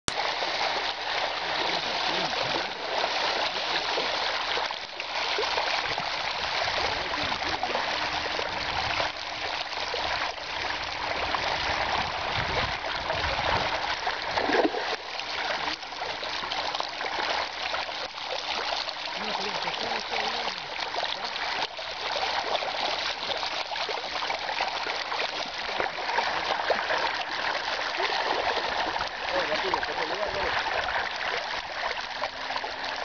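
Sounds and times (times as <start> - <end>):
fish splashing at surface: 0.1 - 10.7, 12.6 - 33.0
flowing river water: 0.1 - 33.0.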